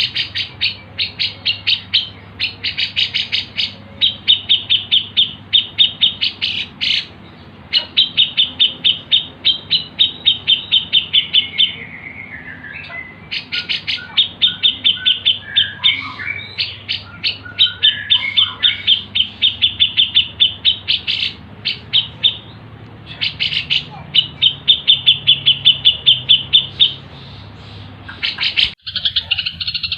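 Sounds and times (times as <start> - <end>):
high bird chirps: 0.0 - 29.9
lower whistled bird notes: 0.0 - 29.9.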